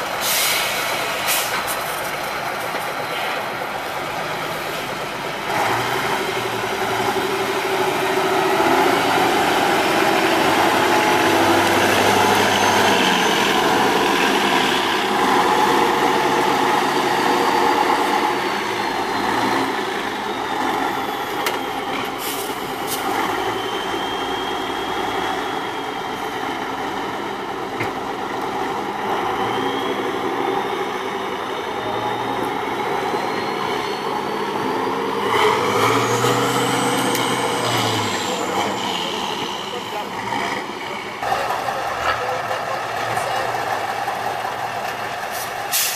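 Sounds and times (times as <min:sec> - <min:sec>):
truck diesel engine revving: 0:00.0 - 0:45.9.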